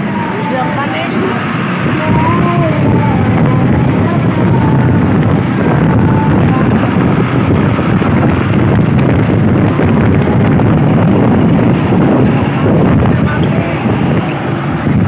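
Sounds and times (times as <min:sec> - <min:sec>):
diesel engine running: 0:00.0 - 0:15.0
wind buffeting microphone: 0:00.0 - 0:15.0.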